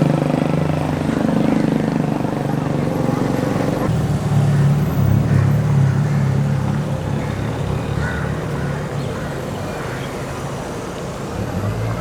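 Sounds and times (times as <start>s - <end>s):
street noise: 0.0s - 12.0s
vehicle engine rumble: 0.0s - 12.0s.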